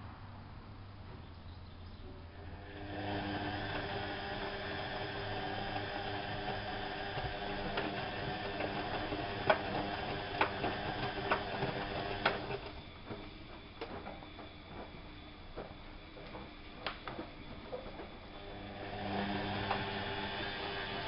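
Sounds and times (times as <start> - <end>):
washing machine humming: 2.0 - 21.0.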